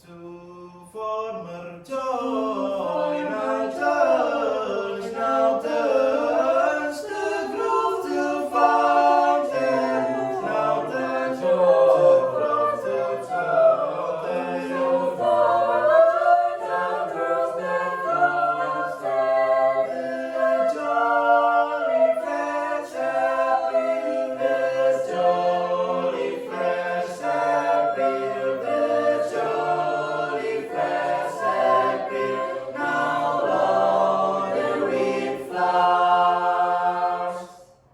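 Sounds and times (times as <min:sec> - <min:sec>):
choir singing a cappella: 0:00.0 - 0:37.9.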